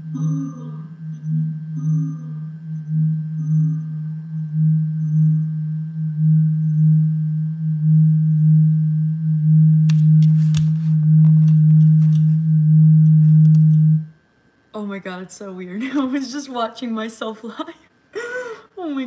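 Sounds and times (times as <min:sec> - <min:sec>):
low feedback hum: 0:00.0 - 0:17.2.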